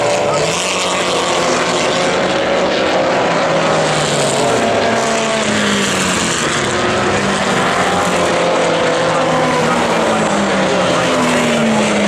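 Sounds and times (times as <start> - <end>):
racing cars passing at speed: 0.0 - 12.0.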